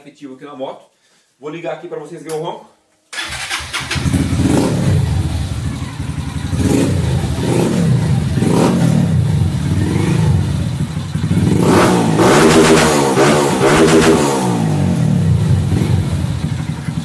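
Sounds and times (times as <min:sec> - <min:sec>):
motorcycle engine idling and revving: 0:03.2 - 0:17.0.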